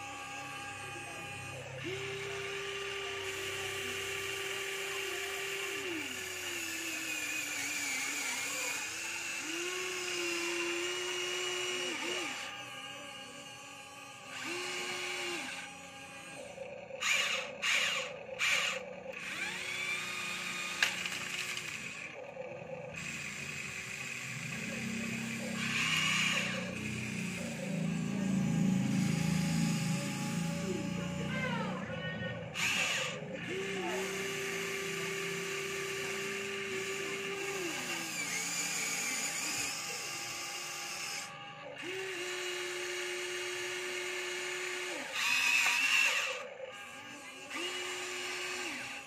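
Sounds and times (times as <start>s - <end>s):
small electric motors whirring: 0.0s - 49.0s.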